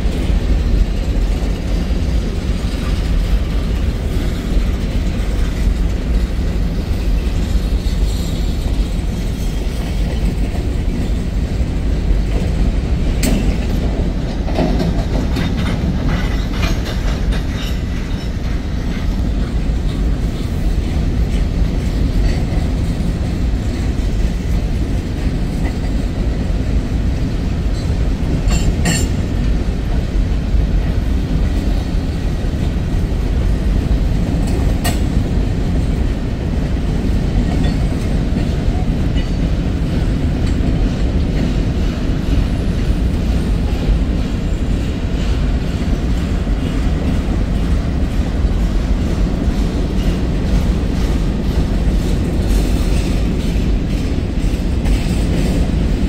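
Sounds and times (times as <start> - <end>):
clacks over rail joints: 0.0 - 56.0
steel wheels rumbling on rail: 0.0 - 56.0.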